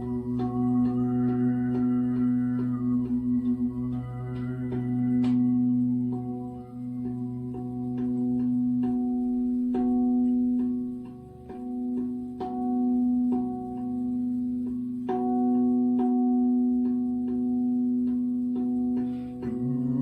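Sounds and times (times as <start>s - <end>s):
resonant metal instruments ringing: 0.0s - 20.0s.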